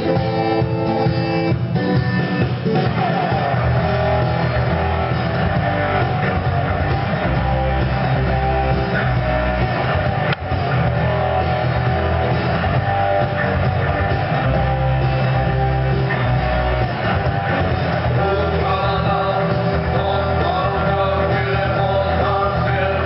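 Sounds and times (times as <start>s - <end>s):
guitar-led rock instrumental: 0.0s - 23.0s.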